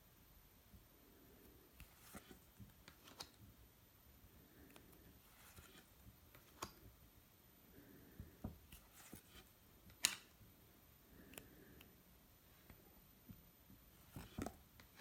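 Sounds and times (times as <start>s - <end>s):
faint rustling of cards: 1.0s - 7.0s, 7.7s - 15.0s.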